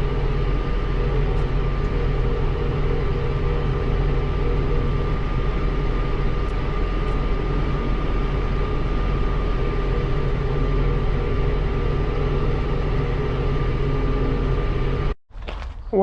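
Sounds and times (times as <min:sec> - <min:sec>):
thin steady whine: 0:00.0 - 0:15.2
tractor engine running: 0:00.0 - 0:15.2.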